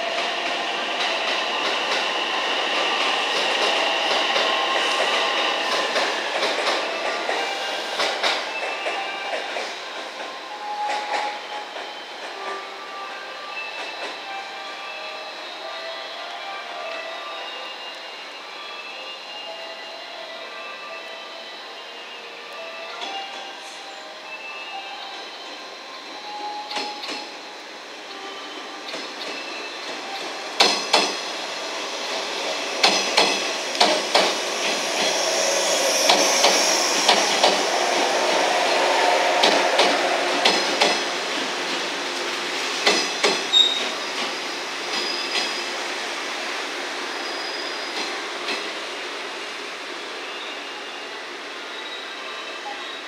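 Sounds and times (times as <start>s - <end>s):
electric train passing: 0.0s - 52.7s.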